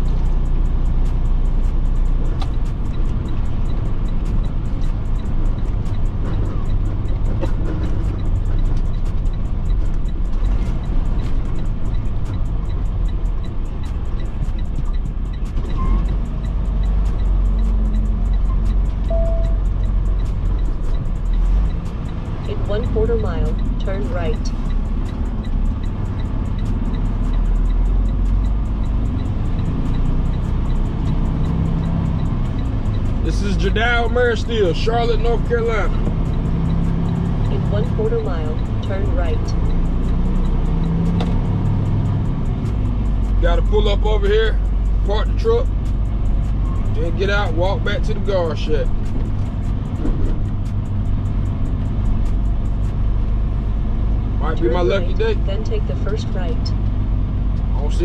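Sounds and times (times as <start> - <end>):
music with ticking beat: 0.0 - 58.0
truck engine drone: 0.0 - 58.0.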